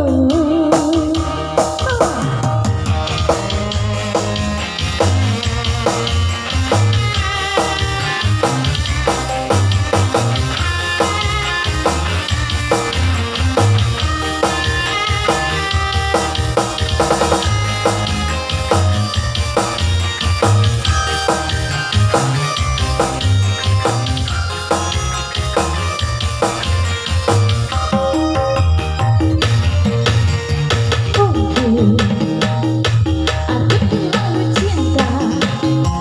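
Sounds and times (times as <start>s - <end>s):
instrumental band music: 0.0s - 36.0s.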